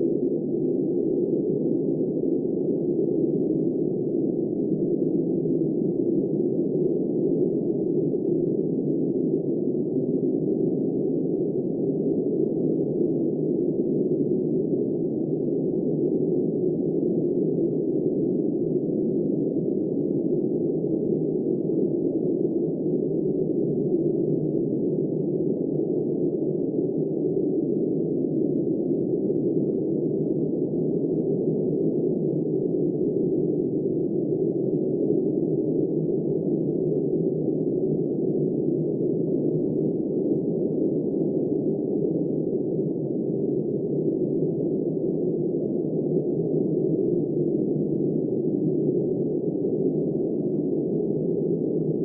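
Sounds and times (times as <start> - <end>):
muffled blizzard wind: 0.0 - 52.0.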